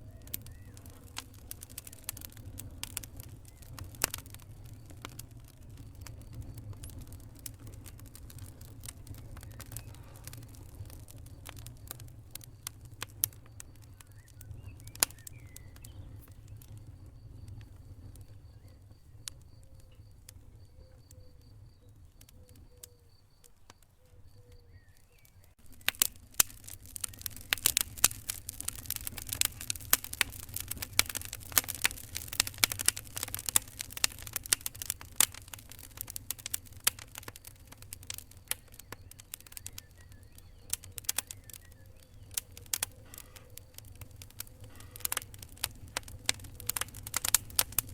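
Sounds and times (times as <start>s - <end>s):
low rumble of flame: 0.0s - 47.9s
wood fire crackling: 0.0s - 47.9s.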